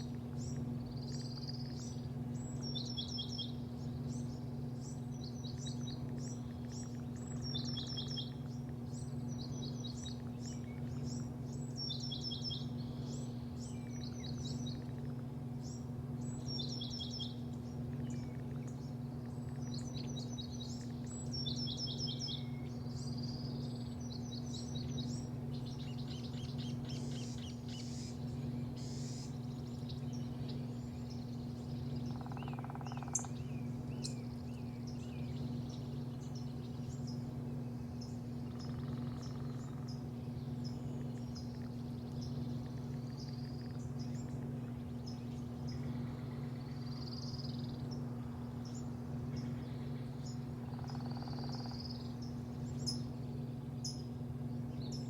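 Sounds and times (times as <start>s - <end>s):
low mechanical hum: 0.0s - 55.0s
small birds chirping: 0.0s - 55.0s.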